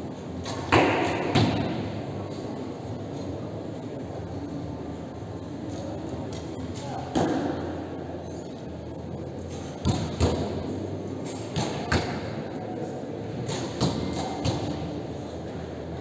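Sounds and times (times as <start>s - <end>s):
low background murmur: 0.0s - 16.0s.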